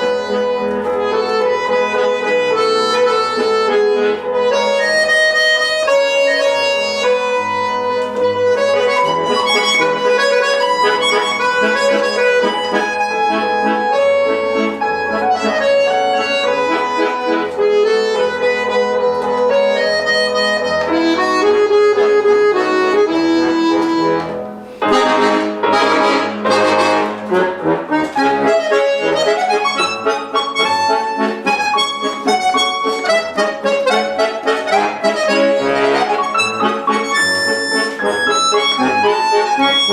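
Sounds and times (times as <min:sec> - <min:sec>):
accordion playing waltz melody: 0:00.0 - 0:39.9
piano accompaniment: 0:00.0 - 0:39.9.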